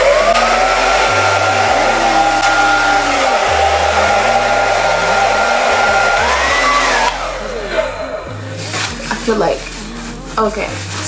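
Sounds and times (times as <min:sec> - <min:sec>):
hair dryer blowing air: 0:00.0 - 0:09.8.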